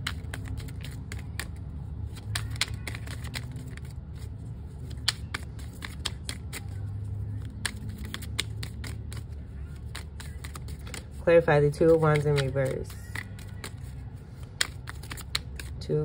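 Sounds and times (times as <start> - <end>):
cards being shuffled: 0.0 - 15.9.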